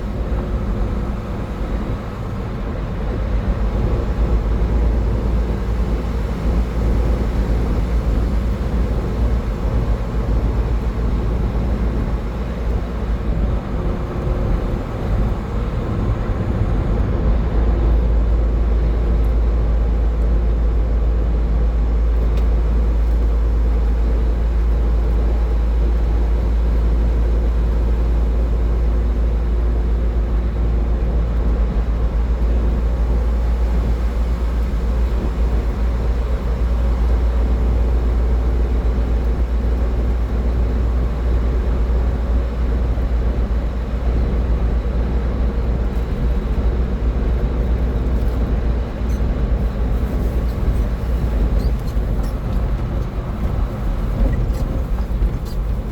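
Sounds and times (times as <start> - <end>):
faint engine drone: 0.0 - 55.9
road and tyre noise: 0.0 - 55.9.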